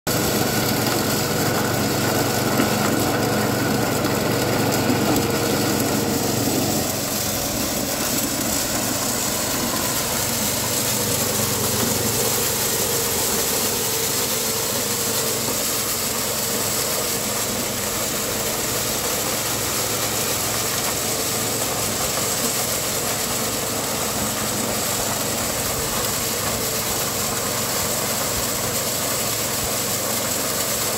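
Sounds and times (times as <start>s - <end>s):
corn sheller engine running: 0.1s - 30.9s.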